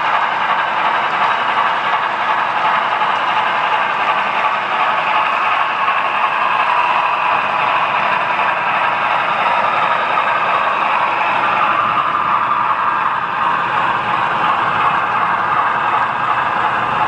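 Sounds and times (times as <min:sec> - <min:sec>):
model train wheels rolling on rails: 0:00.0 - 0:17.0.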